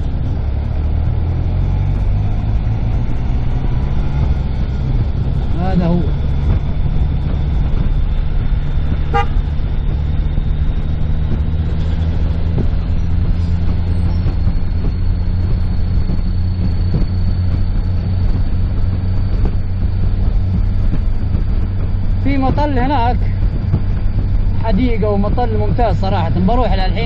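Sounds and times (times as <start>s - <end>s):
car engine and road hum: 0.0s - 27.0s.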